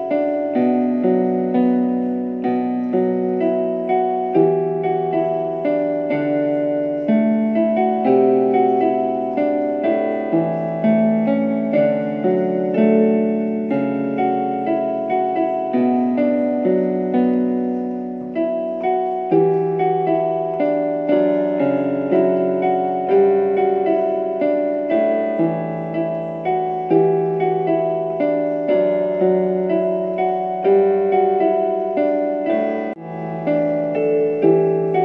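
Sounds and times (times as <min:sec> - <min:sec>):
slow piano keyboard melody: 0:00.0 - 0:35.0.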